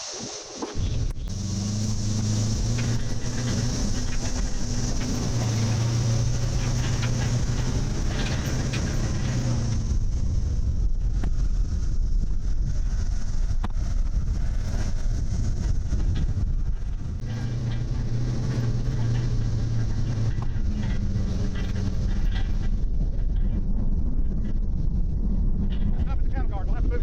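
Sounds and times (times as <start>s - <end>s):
motor running steadily: 0.0s - 27.0s.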